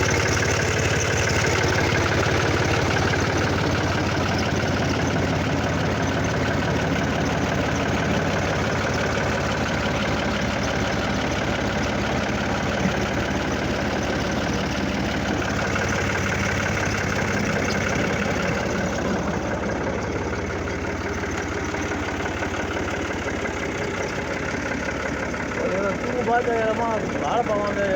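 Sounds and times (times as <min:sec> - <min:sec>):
tractor diesel engine idling: 0:00.0 - 0:27.9.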